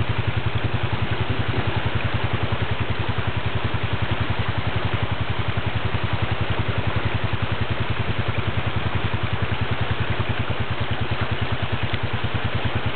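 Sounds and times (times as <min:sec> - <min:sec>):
atv engine idling: 0:00.0 - 0:12.9.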